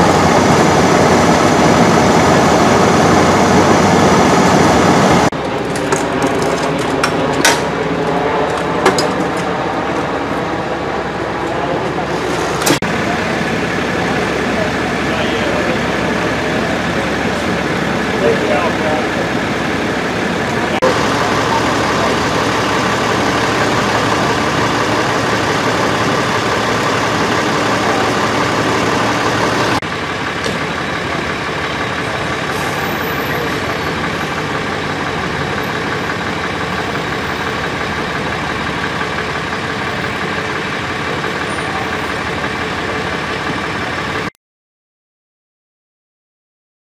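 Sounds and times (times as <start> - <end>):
vehicle engines idling: 0.0 - 44.3.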